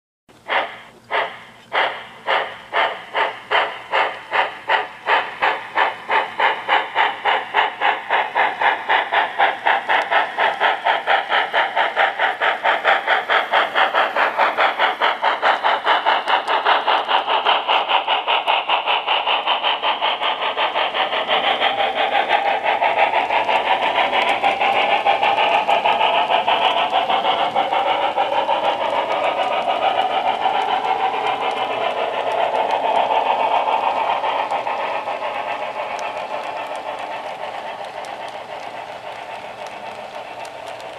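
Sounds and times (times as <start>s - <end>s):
model steam locomotive chuffing: 0.3s - 40.9s
freight cars rolling on track: 0.4s - 40.9s.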